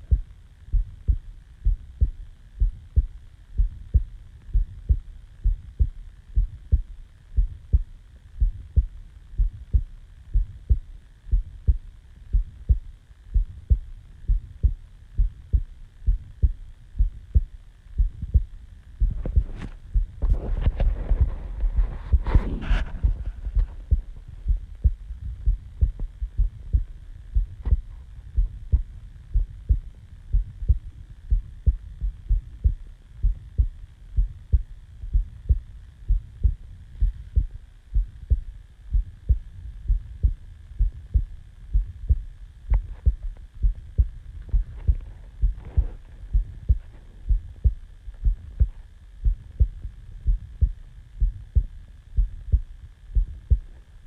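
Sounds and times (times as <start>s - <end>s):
heartbeat thumps: 0.0s - 53.8s
faint steady hum: 0.0s - 54.0s.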